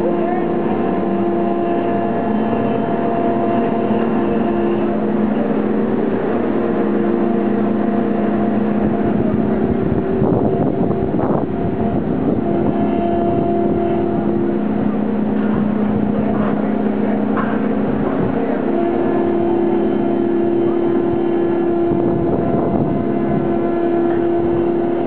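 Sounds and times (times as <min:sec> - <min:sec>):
crane machinery droning: 0:00.0 - 0:25.0
steady machine tones: 0:00.0 - 0:25.0.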